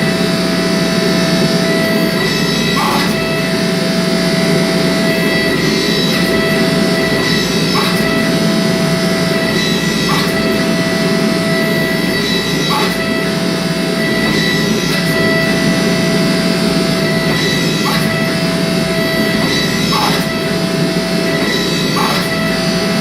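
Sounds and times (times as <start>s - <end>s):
workshop machine whine: 0.0s - 23.0s.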